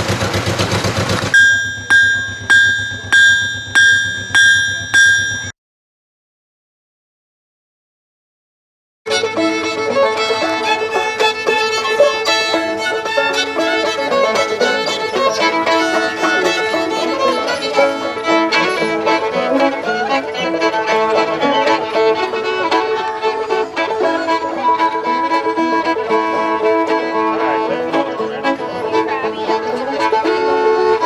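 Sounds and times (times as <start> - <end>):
bowed fiddle melody: 1.4 - 5.5, 9.1 - 31.0
plucked banjo notes: 1.4 - 5.5, 9.1 - 31.0.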